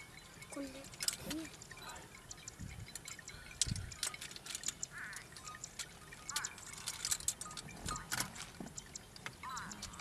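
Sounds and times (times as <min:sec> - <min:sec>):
sharp high ticks: 0:00.0 - 0:10.0
wavering chirps: 0:00.0 - 0:10.0.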